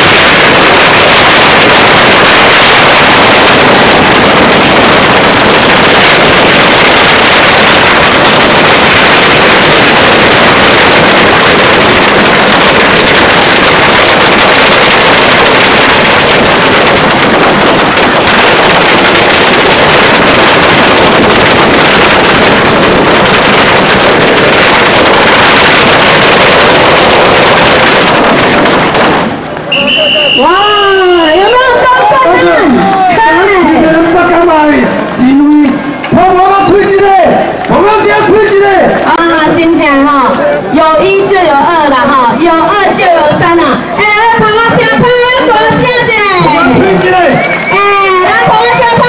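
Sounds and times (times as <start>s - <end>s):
firecrackers crackling: 0.0s - 49.0s.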